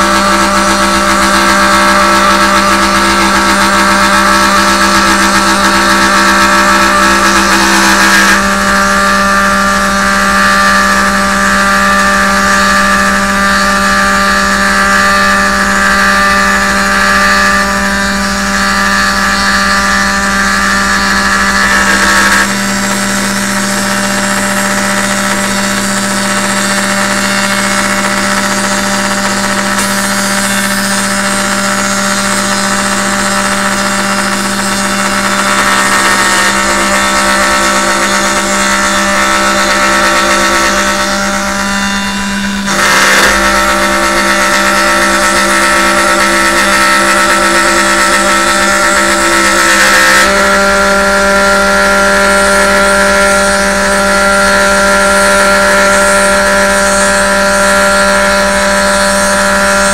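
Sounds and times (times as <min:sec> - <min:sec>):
router spindle cutting wood: 0:00.0 - 0:59.9.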